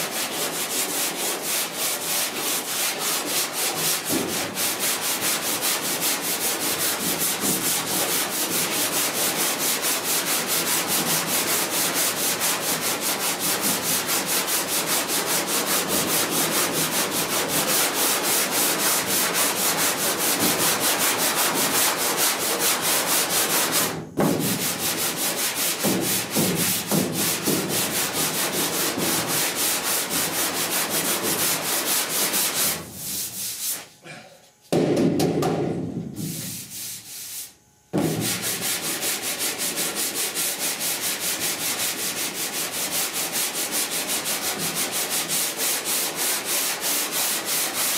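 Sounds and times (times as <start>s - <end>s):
sandpaper rasping on a block: 0.0s - 34.0s, 36.3s - 47.9s.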